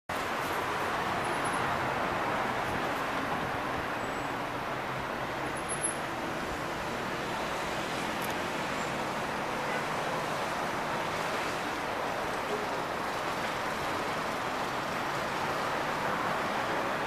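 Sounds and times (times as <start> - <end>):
road traffic: 0.1 - 17.0.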